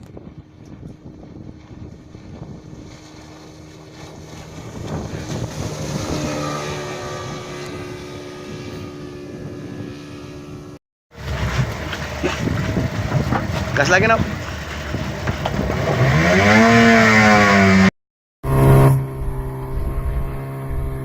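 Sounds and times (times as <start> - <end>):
two-stroke boat engine running: 0.0 - 21.0.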